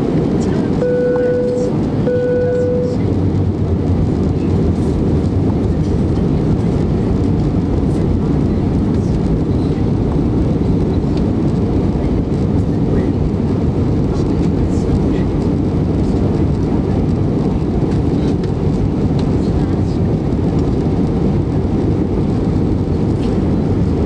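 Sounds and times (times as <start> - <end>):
jet engines and airflow roar: 0.0 - 24.0.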